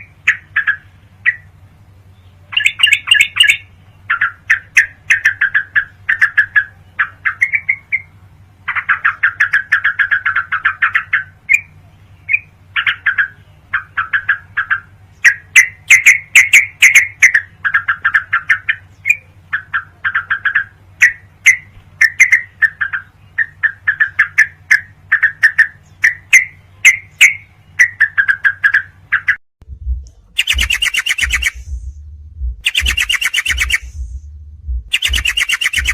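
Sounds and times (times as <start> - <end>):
bird chattering song: 0.0 - 29.4, 30.2 - 35.9
steady low hum: 0.0 - 35.9.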